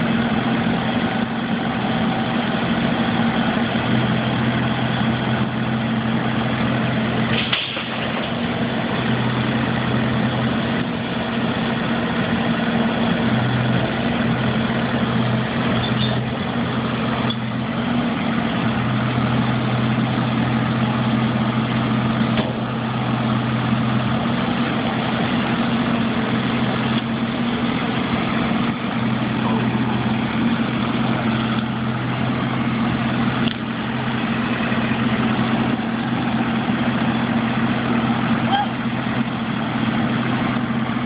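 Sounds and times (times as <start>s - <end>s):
engine humming steadily: 0.0s - 41.0s.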